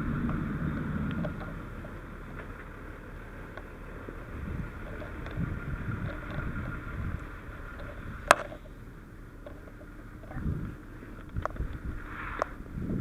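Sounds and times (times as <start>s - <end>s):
low rumbling and shuffling: 0.0s - 13.0s.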